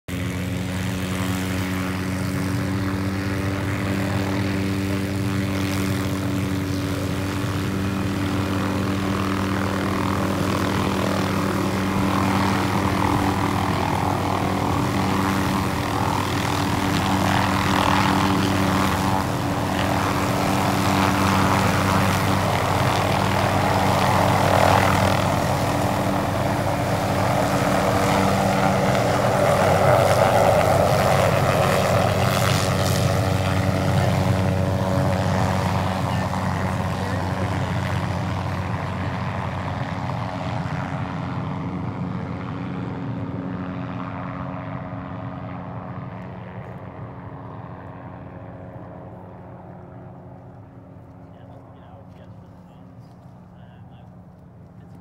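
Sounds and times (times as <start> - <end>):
helicopter turbine and rotor: 0.1 - 55.0.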